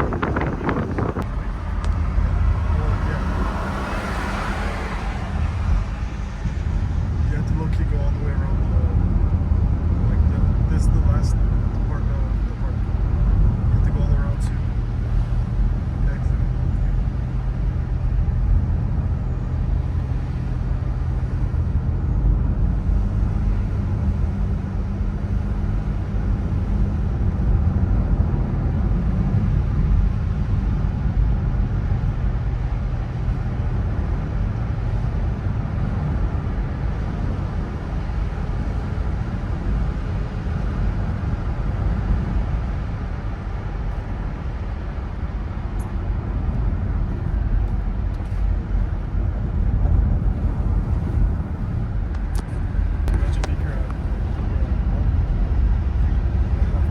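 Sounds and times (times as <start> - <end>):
car engine and road drone: 0.0 - 56.9.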